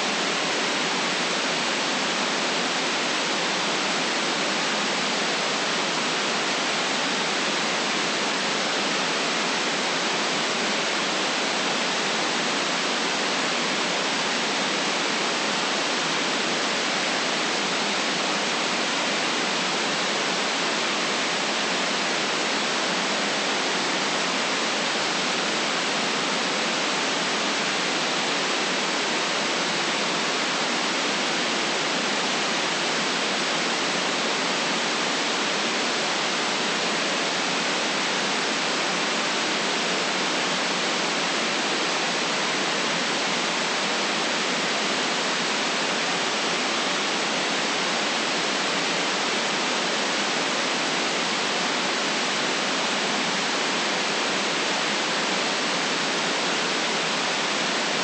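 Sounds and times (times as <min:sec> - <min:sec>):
steady white noise hiss: 0:00.0 - 0:58.0.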